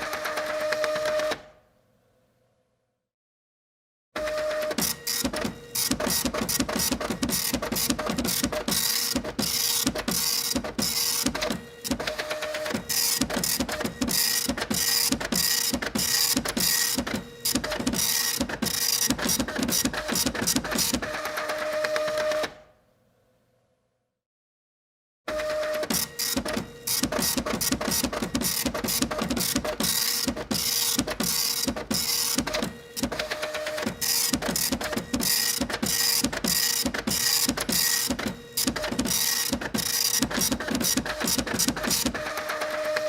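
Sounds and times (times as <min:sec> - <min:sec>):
printer printing: 0:00.0 - 0:01.6, 0:04.2 - 0:22.7, 0:25.3 - 0:43.0.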